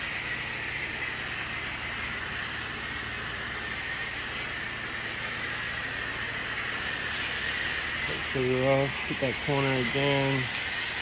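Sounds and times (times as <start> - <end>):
pressure washer spraying hiss: 0.0 - 11.0.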